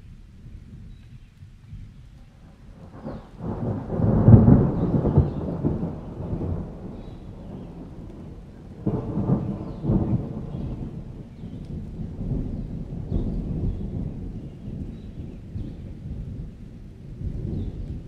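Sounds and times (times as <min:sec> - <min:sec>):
rain: 0:00.0 - 0:18.0
thunder rumbling: 0:02.4 - 0:18.0.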